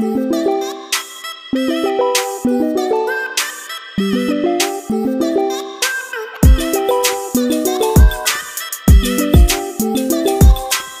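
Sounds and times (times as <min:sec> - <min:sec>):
plucked notes over a beat: 0:00.9 - 0:11.0.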